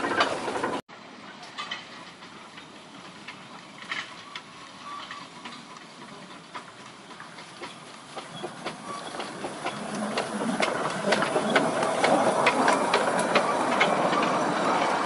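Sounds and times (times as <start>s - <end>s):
wheels clicking on track: 0.0s - 15.0s
steam hiss: 1.9s - 15.0s.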